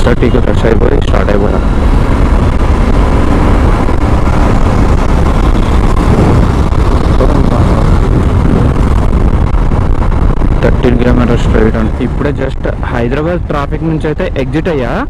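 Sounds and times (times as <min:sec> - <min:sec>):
motorcycle engine running: 0:00.0 - 0:14.7
wind rush on microphone: 0:00.0 - 0:15.0.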